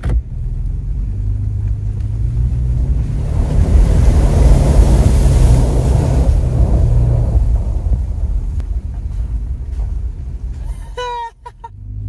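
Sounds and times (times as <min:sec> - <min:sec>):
pickup engine running: 0:00.0 - 0:12.0
splashing water: 0:00.5 - 0:10.6.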